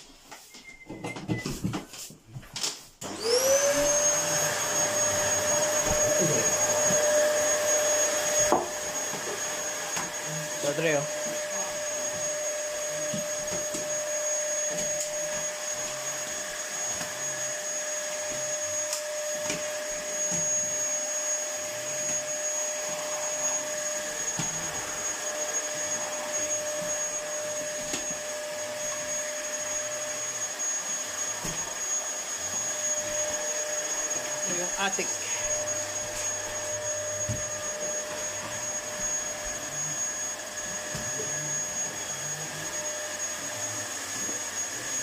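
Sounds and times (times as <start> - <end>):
vacuum cleaner running: 0.0 - 45.0.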